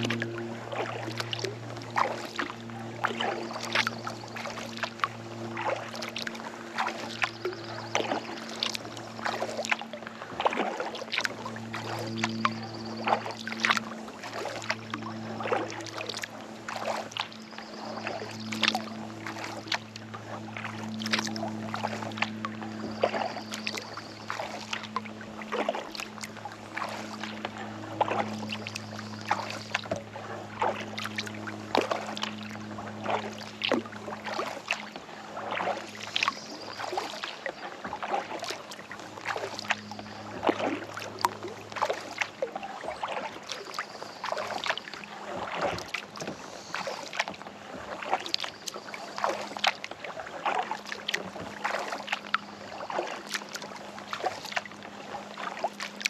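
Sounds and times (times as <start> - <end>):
paddle strokes splashing in water: 0.0 - 56.0
steady low hum: 0.0 - 56.0.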